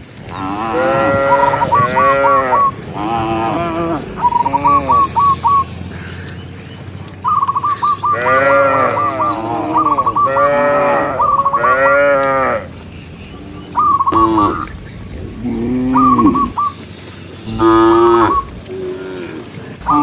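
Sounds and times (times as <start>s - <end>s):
cattle mooing: 0.2s - 20.0s.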